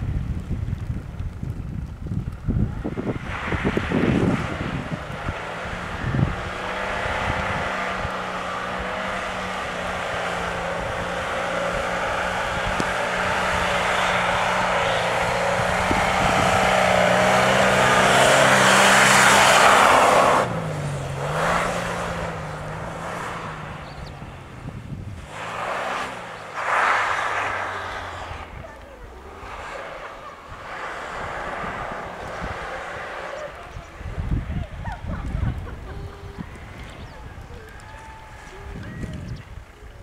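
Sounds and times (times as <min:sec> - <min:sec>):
car engine at high revs: 0:02.4 - 0:39.7.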